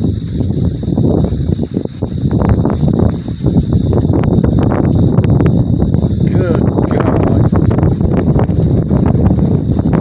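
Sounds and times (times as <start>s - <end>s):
storm wind gusting: 0.0s - 10.0s.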